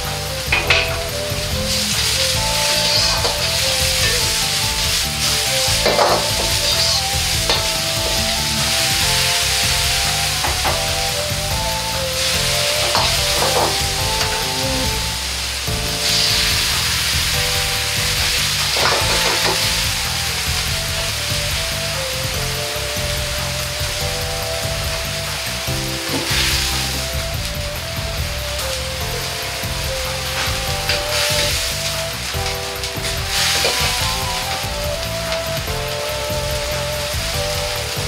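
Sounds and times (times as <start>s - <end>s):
pan bubbling: 0.0s - 38.0s
vegetables sizzling in a wok: 0.0s - 38.0s.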